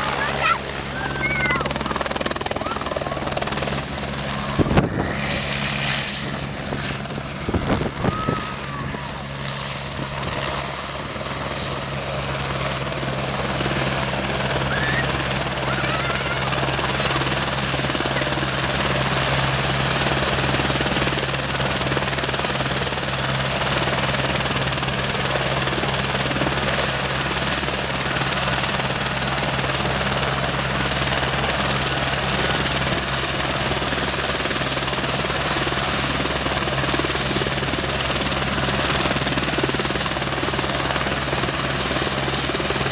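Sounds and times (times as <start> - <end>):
helicopter running: 0.0 - 42.9.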